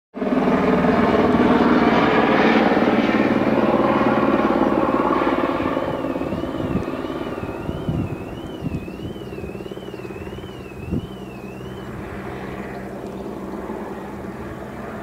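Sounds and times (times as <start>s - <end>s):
helicopter rotor chopping: 0.2s - 15.0s.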